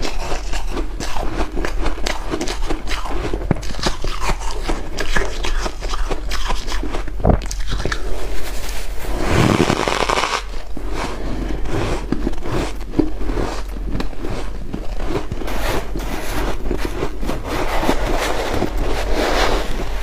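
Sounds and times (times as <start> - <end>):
ice crunching in mouth: 0.0 - 19.0.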